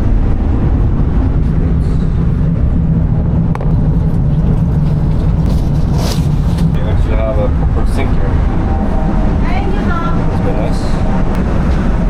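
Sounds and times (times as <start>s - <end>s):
train running rumble and hum: 0.0s - 12.0s.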